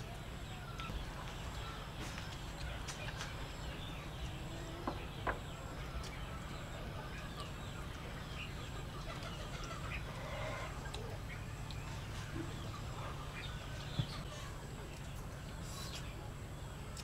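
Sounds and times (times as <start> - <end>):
chickens clucking: 0.0 - 17.0
chirps: 0.0 - 17.0
steady low hum: 0.0 - 17.0.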